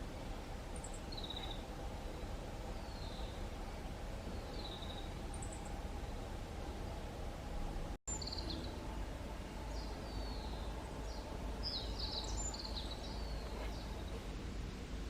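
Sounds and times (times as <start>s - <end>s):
birds chirping: 0.0s - 14.9s
low background noise: 0.0s - 15.0s.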